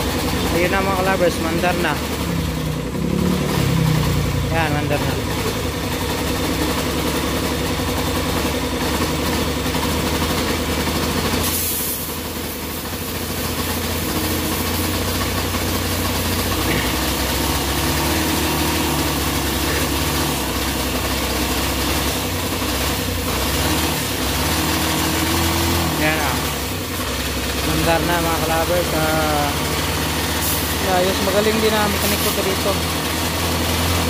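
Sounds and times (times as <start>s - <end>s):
motorcycle engine idling: 0.0s - 34.0s.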